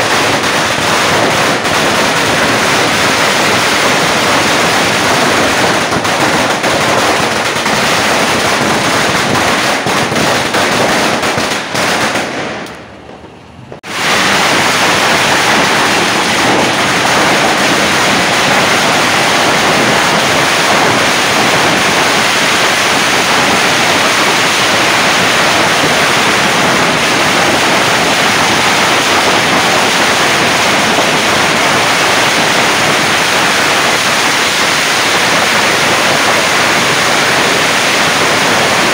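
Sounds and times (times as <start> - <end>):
firecracker string rattling: 0.0 - 38.9.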